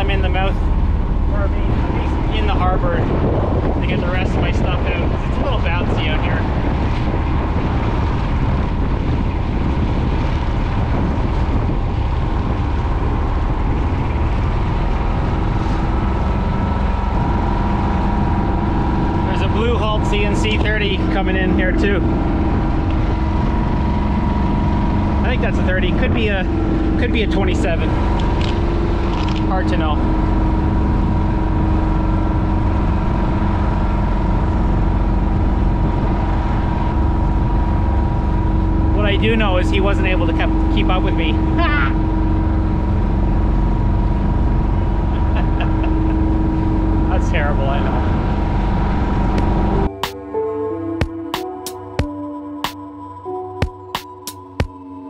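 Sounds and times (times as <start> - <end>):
water rushing along hull: 0.0 - 50.0
wind rumbling on microphone: 0.0 - 50.0
boat engine running: 0.0 - 52.2.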